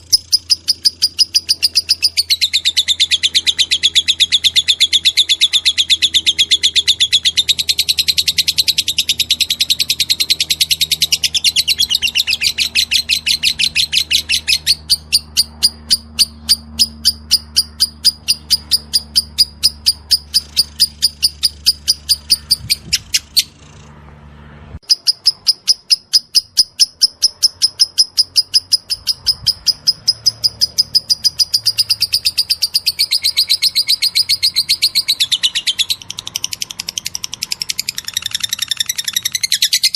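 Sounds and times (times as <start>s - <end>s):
lovebird chattering high chirps: 0.0s - 23.9s, 24.8s - 39.9s.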